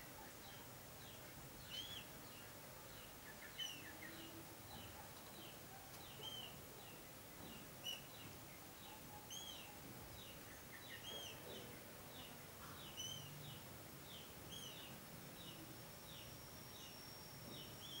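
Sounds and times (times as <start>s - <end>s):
low background hiss: 0.0s - 18.0s.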